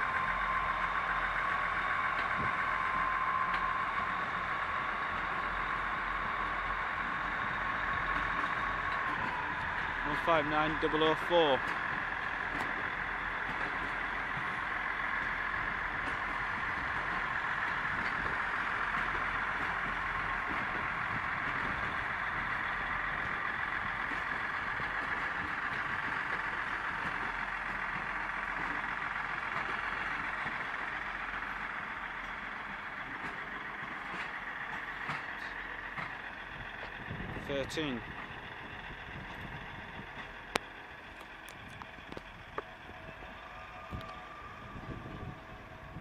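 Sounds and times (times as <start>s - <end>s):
diesel train engines rumbling: 0.0s - 46.0s
train wheels on rail: 0.0s - 46.0s.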